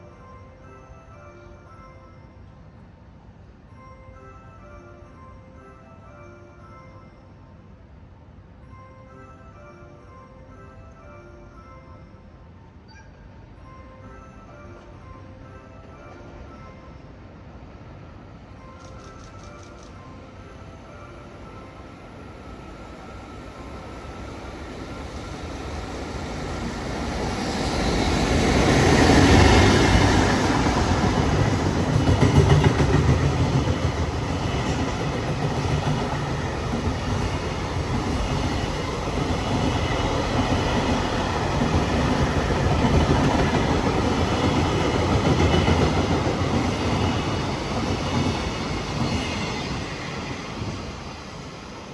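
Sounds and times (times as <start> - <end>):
electric locomotive passing: 0.0 - 51.9.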